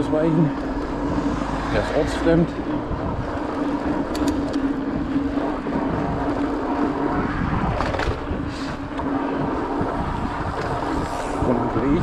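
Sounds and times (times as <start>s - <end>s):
bicycle tyre hum: 0.0s - 12.0s.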